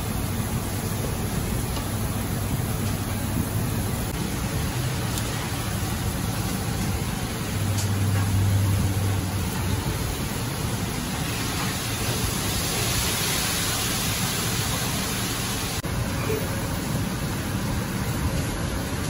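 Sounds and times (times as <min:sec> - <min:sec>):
kitchen background rushing noise: 0:00.0 - 0:19.0.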